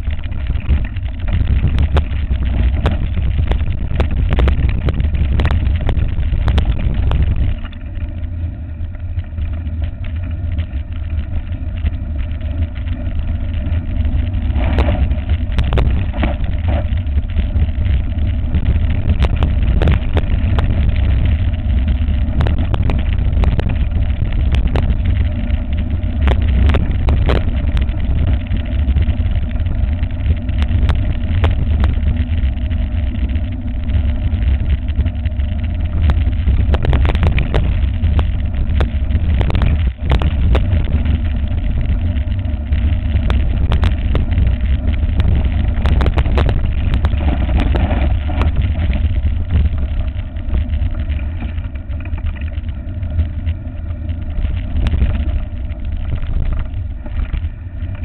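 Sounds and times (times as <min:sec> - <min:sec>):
bike clicks and rattles: 0:00.0 - 0:58.0
wind rumble on microphone: 0:00.0 - 0:58.0.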